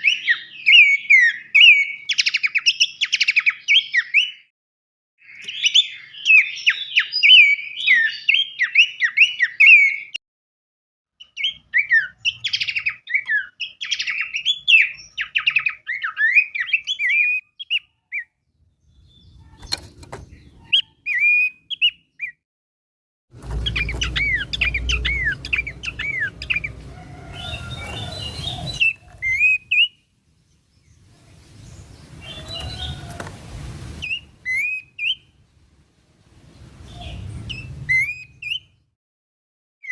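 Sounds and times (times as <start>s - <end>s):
songbird chirps and whistles: 0.0s - 4.5s, 5.2s - 10.2s, 11.2s - 22.4s, 23.6s - 33.3s, 34.0s - 35.4s, 36.4s - 38.9s.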